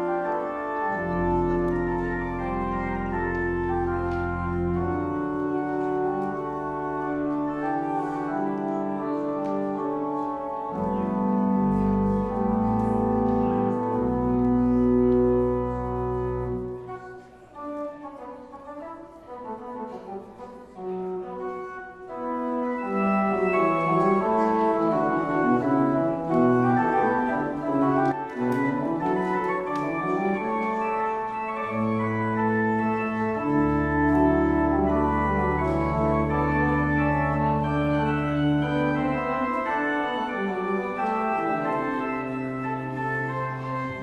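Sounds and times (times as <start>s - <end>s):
deep organ pedal bass notes: 0.0s - 17.0s, 22.2s - 44.0s
church organ chords: 0.0s - 44.0s.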